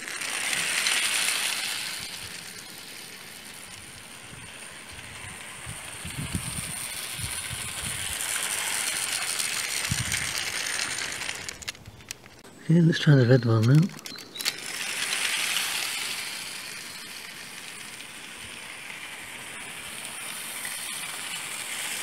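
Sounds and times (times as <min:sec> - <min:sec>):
clockwork motor whirring: 0:00.0 - 0:12.4, 0:13.0 - 0:22.0
toy train wheels rattling: 0:00.0 - 0:22.0.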